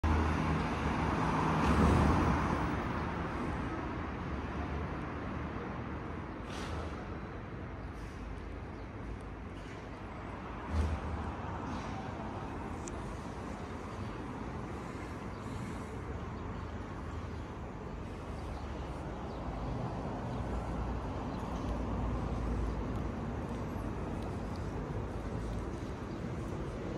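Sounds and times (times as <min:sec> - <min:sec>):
distant city traffic rumble: 0:00.0 - 0:26.9.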